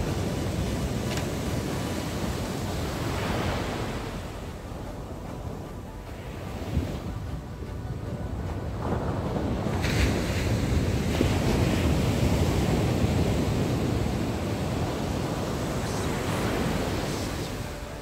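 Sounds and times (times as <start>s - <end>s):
surf breaking on a beach: 0.0s - 18.0s
wind buffeting the microphone: 0.0s - 18.0s.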